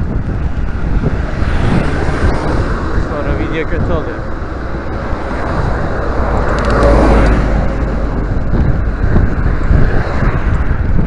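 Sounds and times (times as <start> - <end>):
road traffic: 0.0 - 11.0
wind buffeting microphone: 0.0 - 11.0.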